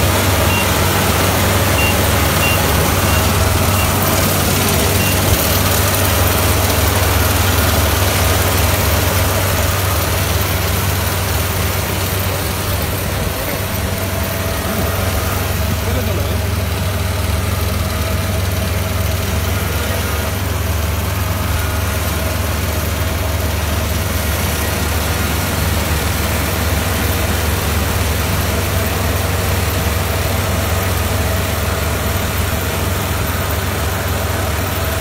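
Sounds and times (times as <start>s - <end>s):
diesel engine droning: 0.0s - 35.0s.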